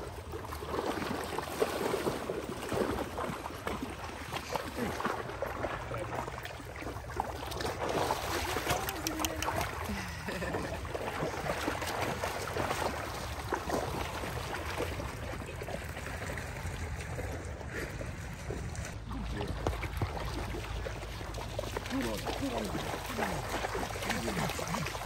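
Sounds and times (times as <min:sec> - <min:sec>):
dogs splashing through water: 0:00.0 - 0:25.0.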